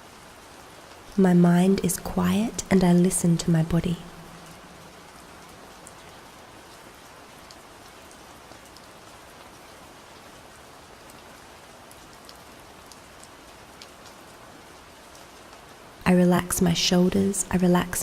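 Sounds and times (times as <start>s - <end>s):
gentle rain falling: 0.0s - 18.0s.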